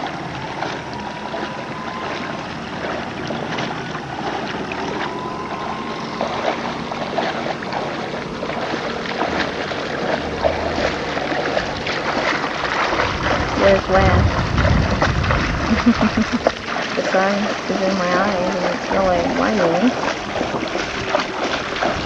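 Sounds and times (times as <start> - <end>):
water splashing from wading: 0.0 - 22.0.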